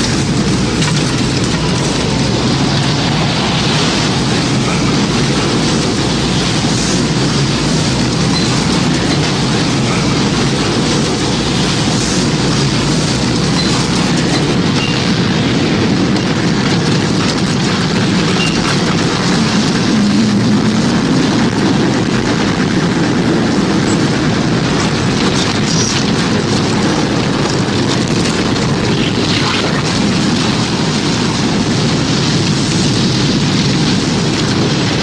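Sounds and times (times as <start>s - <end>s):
tornado wind roaring: 0.0s - 35.0s.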